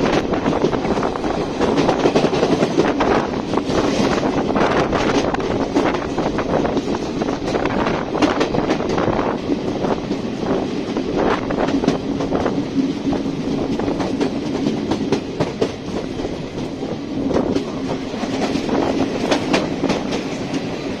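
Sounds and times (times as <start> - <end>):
train coach rumbling: 0.0 - 21.0
wheels clicking over rail joints: 0.0 - 21.0.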